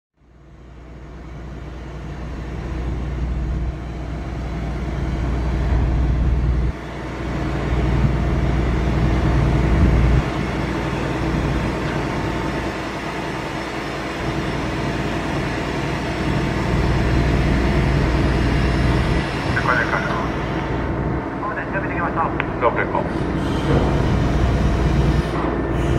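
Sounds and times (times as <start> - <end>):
low machinery rumble: 0.2 - 25.9.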